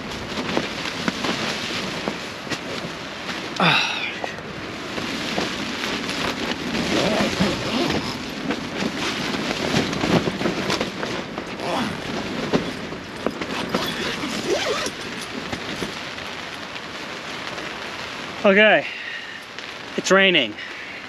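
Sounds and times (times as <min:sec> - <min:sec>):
tent fabric rustling: 0:00.0 - 0:18.6
heavy rain on a tent: 0:00.0 - 0:21.0.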